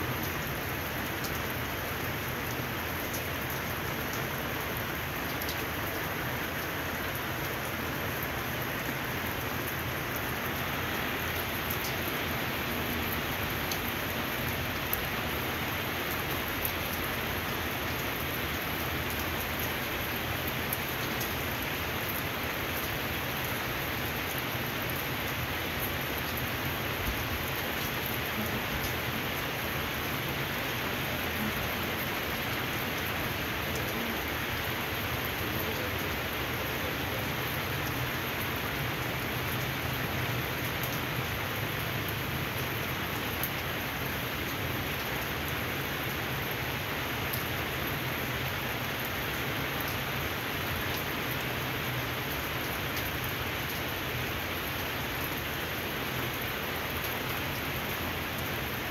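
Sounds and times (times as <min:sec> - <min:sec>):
rain on wet pavement: 0:00.0 - 0:58.9.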